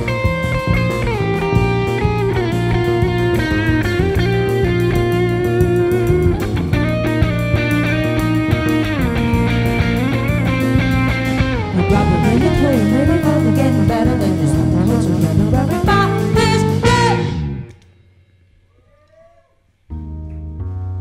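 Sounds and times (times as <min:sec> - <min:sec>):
jazz fusion band playing: 0:00.0 - 0:17.7.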